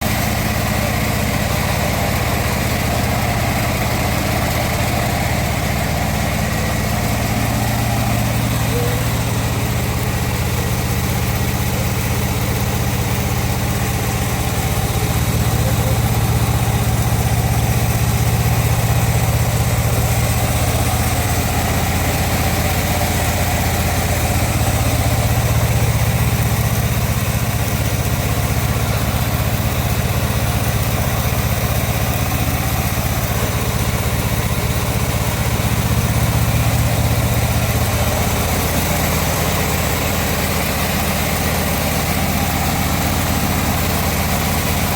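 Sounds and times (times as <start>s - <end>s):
engine humming: 0.0s - 44.9s.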